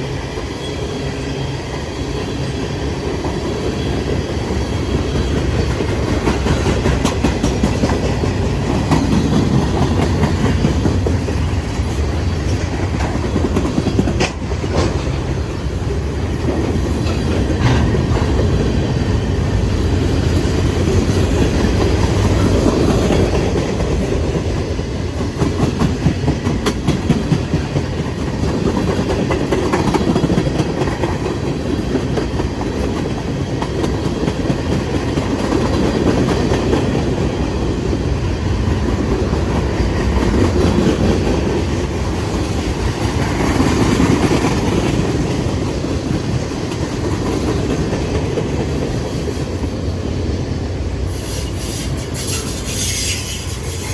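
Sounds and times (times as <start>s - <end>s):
train wheels rumbling on rail: 0.0s - 53.9s
wheels clicking over rail joints: 4.6s - 49.7s.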